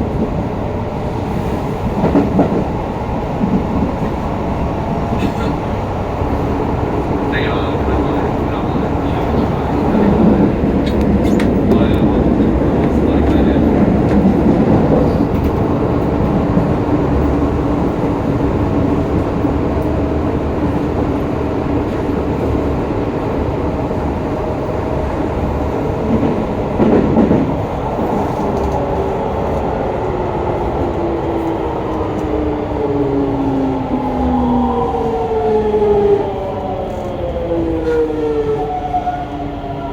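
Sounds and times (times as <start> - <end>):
train rail rumble: 0.0 - 39.9.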